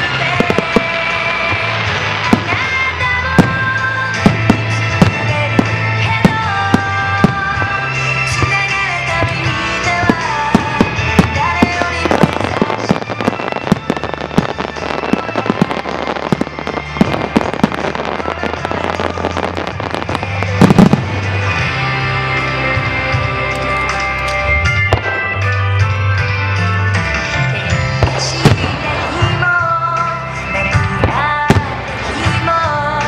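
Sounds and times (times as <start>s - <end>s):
fireworks bursts and crackle: 0.0s - 33.0s
music: 0.0s - 33.0s.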